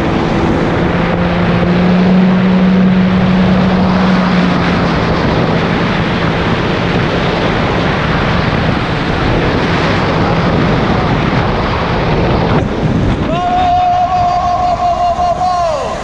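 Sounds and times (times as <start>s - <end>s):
water noise from hull: 0.0s - 16.0s
watercraft engine droning: 0.0s - 16.0s
wind rushing on microphone: 0.0s - 16.0s.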